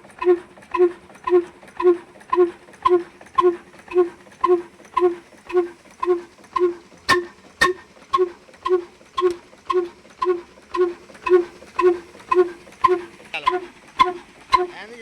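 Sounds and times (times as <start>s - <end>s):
diesel engine exhaust pops: 0.0s - 14.8s
engine knocks: 0.0s - 15.0s.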